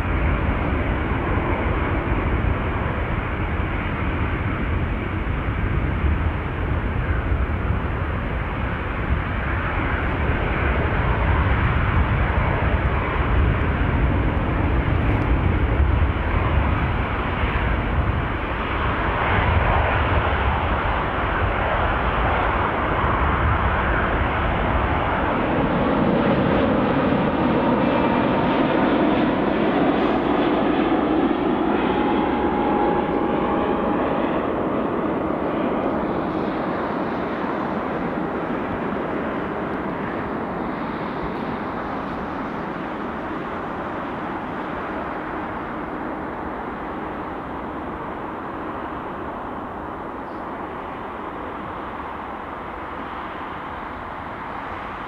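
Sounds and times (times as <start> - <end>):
faint engine whine: 0.0 - 55.0
jet airliner engines rumbling: 0.0 - 55.0.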